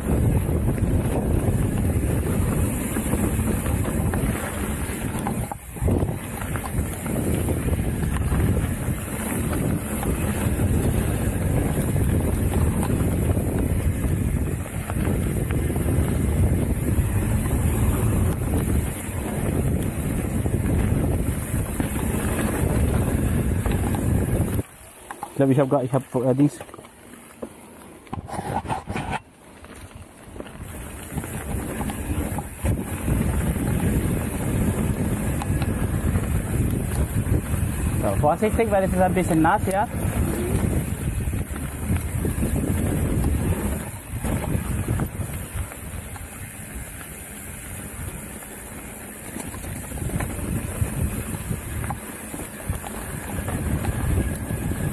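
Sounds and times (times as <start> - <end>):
wind buffeting microphone: 0.0 - 24.7, 28.1 - 54.9
bike rattling over bumps: 0.0 - 54.9
rumble of bike tyres: 0.0 - 54.9.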